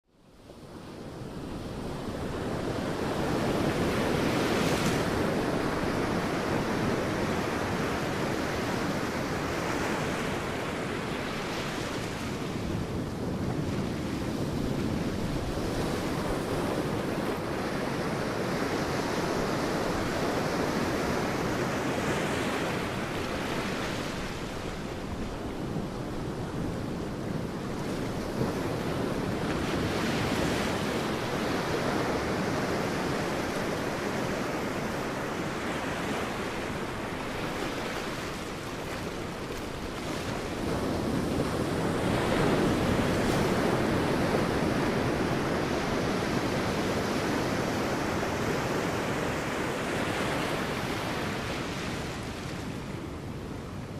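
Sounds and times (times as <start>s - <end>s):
sea waves breaking on beach: 0.6s - 53.9s.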